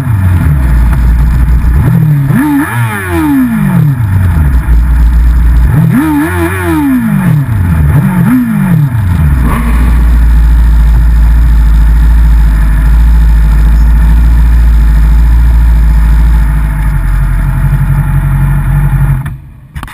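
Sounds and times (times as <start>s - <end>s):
motorcycle engine revving and idling: 0.0s - 19.9s.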